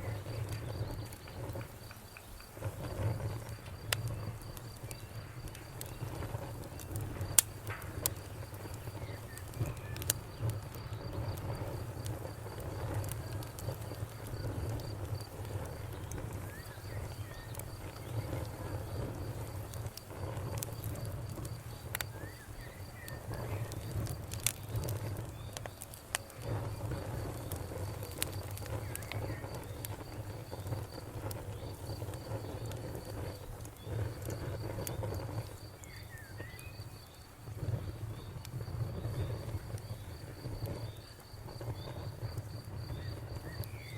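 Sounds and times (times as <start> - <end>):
campfire crackling and popping: 0.0 - 43.9
insect trill: 0.0 - 43.9.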